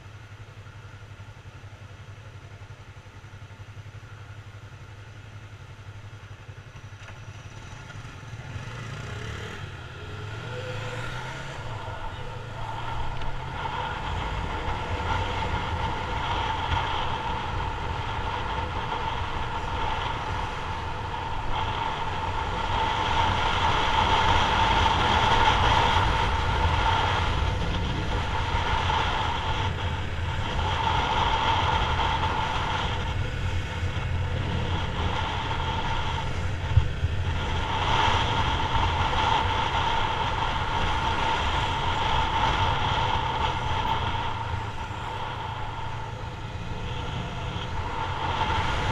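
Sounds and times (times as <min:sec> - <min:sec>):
motorcycle engine running: 0:00.0 - 0:48.9
wind rushing past camera: 0:07.5 - 0:48.9.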